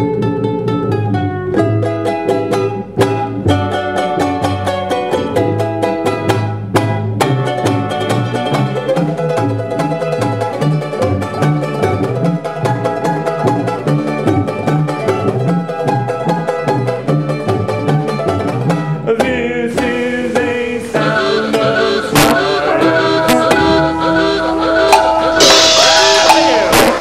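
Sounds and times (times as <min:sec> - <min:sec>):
bouncing bass line: 0:00.0 - 0:27.0
plucked string notes: 0:00.0 - 0:27.0.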